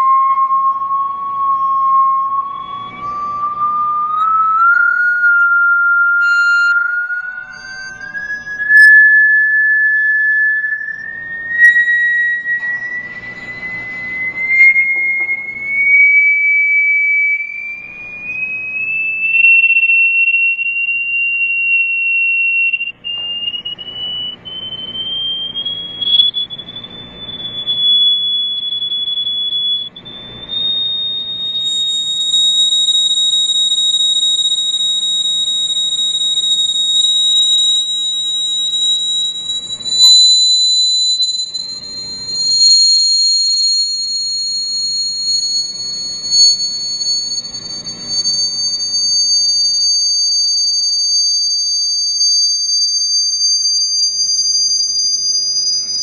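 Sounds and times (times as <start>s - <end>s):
high-pitched gliding tone: 0.0s - 55.6s.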